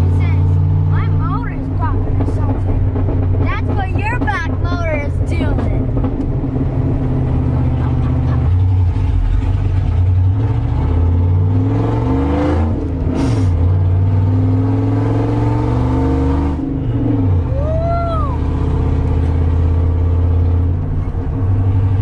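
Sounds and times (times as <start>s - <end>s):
loud engine exhaust drone: 0.0s - 22.0s.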